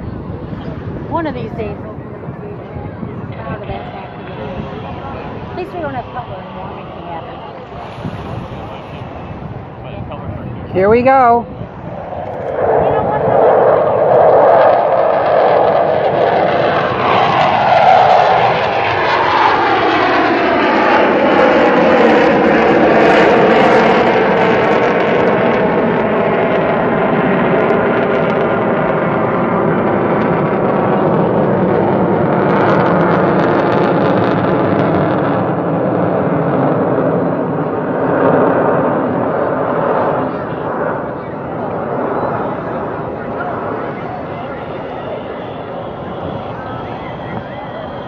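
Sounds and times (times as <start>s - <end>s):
jet engine roar: 0.0s - 48.0s.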